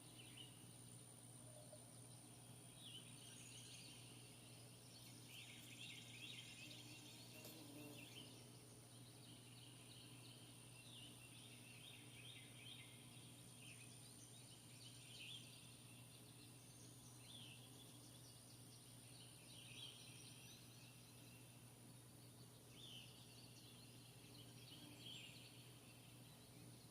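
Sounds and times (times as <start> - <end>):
faint birds chirping: 0.0 - 26.9.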